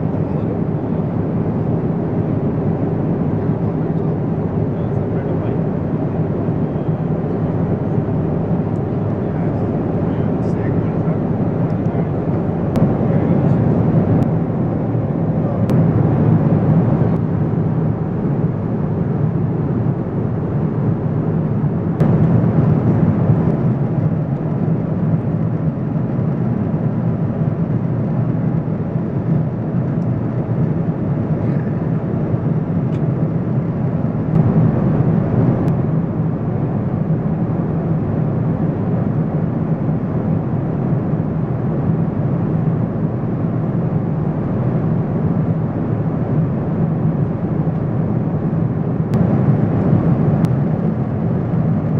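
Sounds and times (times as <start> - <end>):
airplane cabin noise: 0.0 - 51.9.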